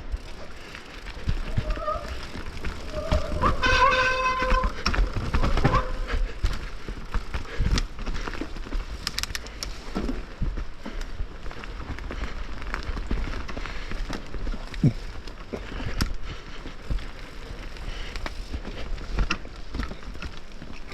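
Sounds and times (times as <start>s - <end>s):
mountain bike rattling over trail: 0.0s - 20.9s.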